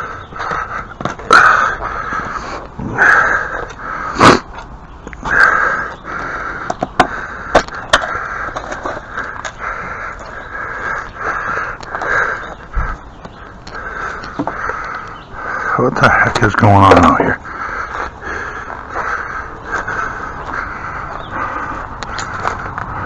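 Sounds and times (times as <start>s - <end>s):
crows cawing: 0.0s - 4.5s, 5.2s - 23.0s.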